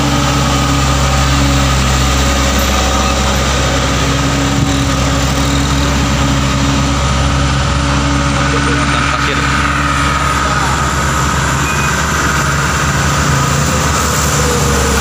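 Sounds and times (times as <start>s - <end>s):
diesel truck engine pulling uphill: 0.0s - 15.0s.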